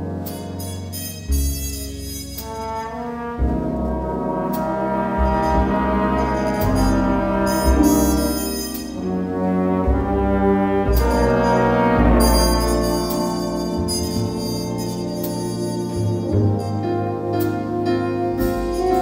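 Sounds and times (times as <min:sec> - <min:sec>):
jazz band playing a slow ballad: 0:00.0 - 0:19.0.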